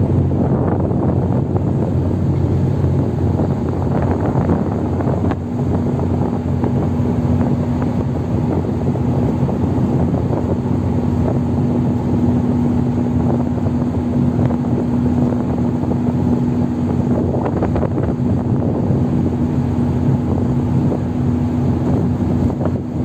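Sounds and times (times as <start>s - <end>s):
ship diesel engines rumbling: 0.0s - 23.0s.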